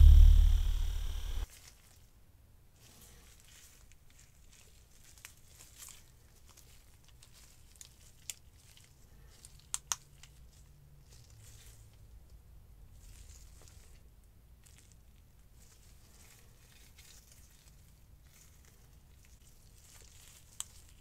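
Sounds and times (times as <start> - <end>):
soft rustling of handling: 1.5 - 21.0.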